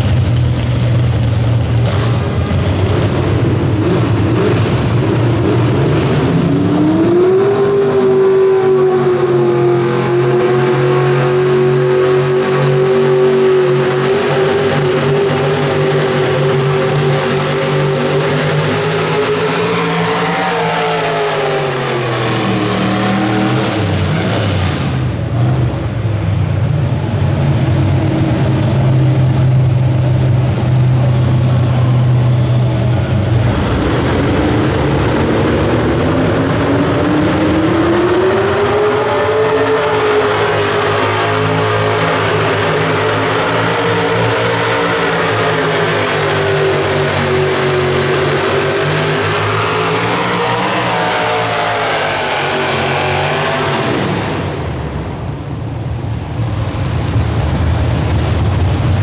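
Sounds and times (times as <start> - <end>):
truck engine at full throttle: 0.0 - 59.0.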